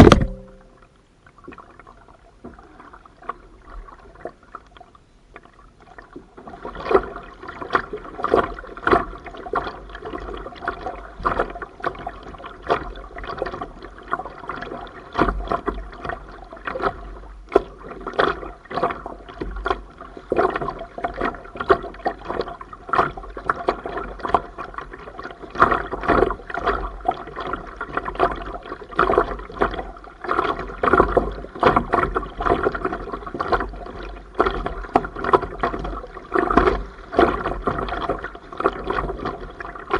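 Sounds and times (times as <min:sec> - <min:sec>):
paddle water splashing: 0:00.0 - 0:39.9.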